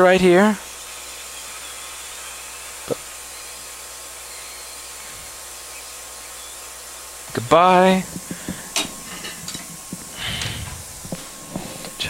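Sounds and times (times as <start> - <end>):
hot air station blowing hiss: 0.0 - 12.0.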